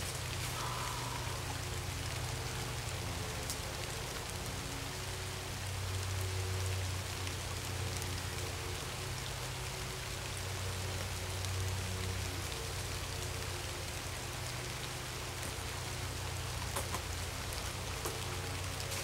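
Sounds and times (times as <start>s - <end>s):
low steady hum: 0.0s - 19.0s
rain on leaves: 0.0s - 19.0s.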